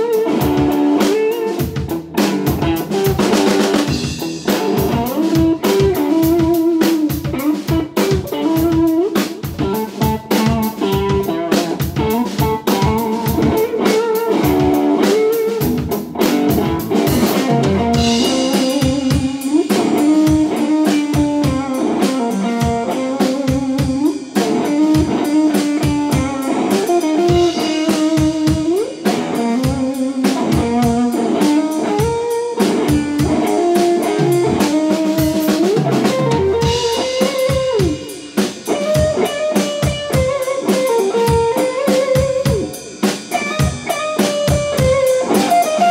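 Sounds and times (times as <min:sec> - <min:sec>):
drum kit: 0:00.0 - 0:45.9
electric guitar blues lead: 0:00.0 - 0:45.9.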